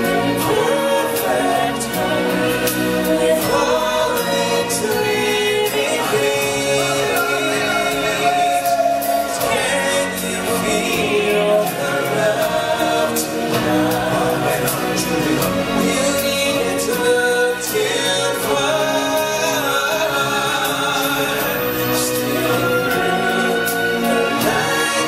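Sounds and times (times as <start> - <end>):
group of voices singing: 0.0 - 25.0
stage show music accompaniment: 0.0 - 25.0.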